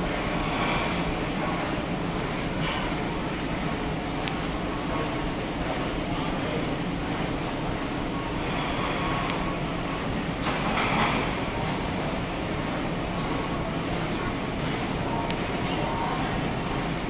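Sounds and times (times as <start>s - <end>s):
steam engines running: 0.0s - 17.0s.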